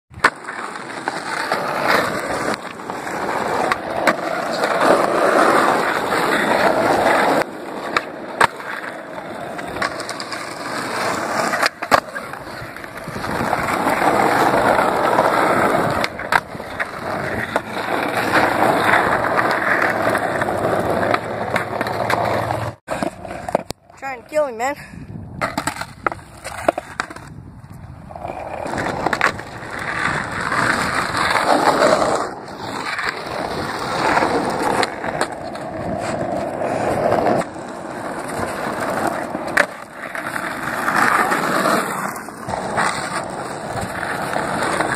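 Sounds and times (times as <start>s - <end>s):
skateboard clacking on ground: 0.1s - 24.3s, 25.4s - 44.9s
skateboard wheels rolling on asphalt: 0.1s - 44.9s.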